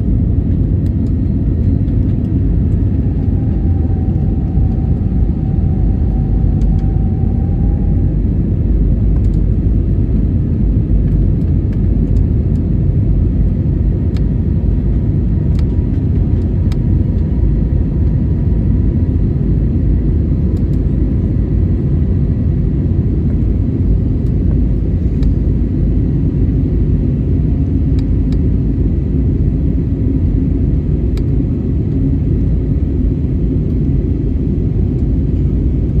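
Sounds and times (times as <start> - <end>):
airliner engines rumbling: 0.0 - 36.0.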